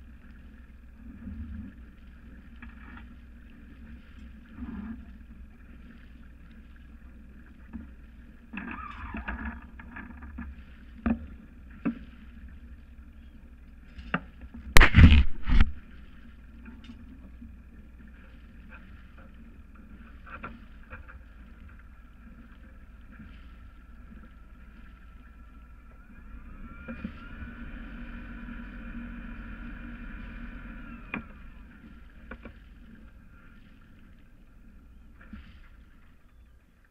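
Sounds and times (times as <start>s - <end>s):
boat engine running: 0.0s - 36.9s.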